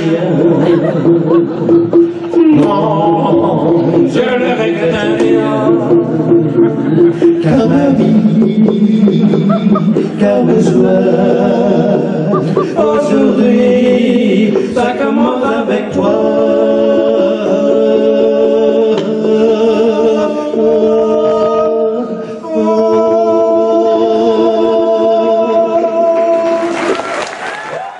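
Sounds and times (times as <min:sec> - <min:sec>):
two men singing in harmony: 0:00.0 - 0:27.1.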